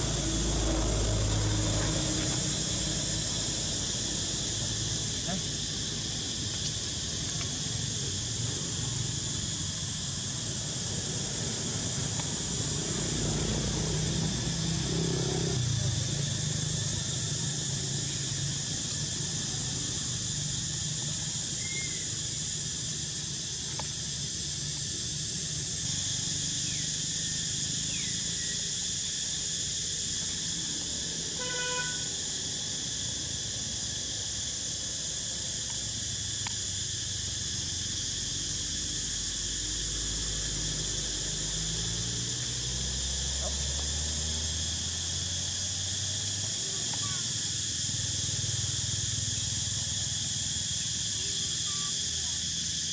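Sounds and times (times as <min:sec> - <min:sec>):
insects droning: 0:00.0 - 0:52.9.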